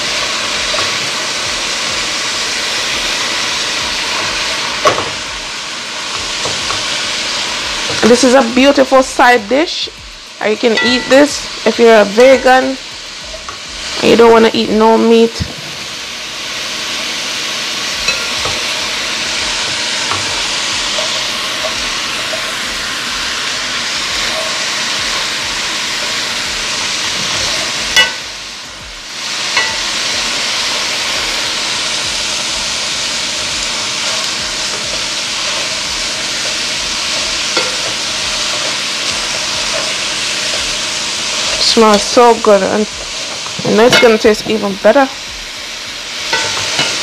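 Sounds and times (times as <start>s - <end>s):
vegetables sizzling in hot oil: 0.0s - 47.0s.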